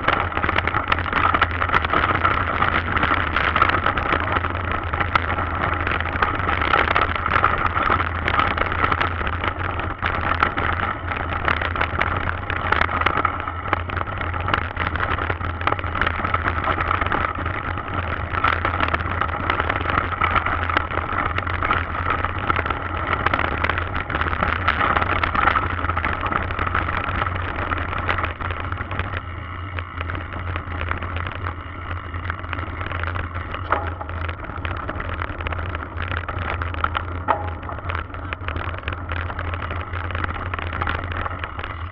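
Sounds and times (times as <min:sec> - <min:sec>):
bike tyres clattering on rocks: 0:00.0 - 0:41.9
low microphone rumble: 0:00.0 - 0:41.9.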